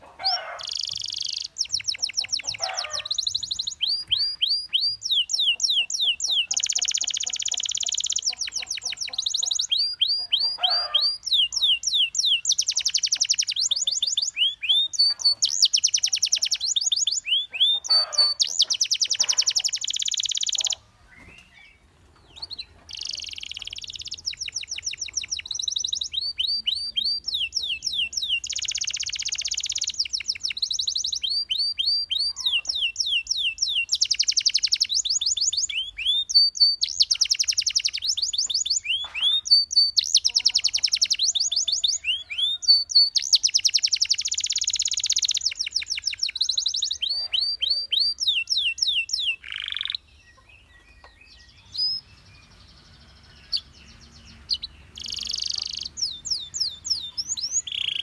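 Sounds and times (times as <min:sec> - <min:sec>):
canary song trills and whistles: 0:00.0 - 0:58.0.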